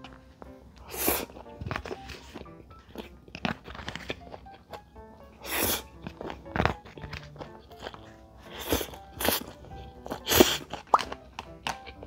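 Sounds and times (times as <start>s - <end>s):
chewing: 0.0s - 12.0s
light background music: 0.0s - 12.0s
slurping food: 0.8s - 4.6s, 5.3s - 12.0s.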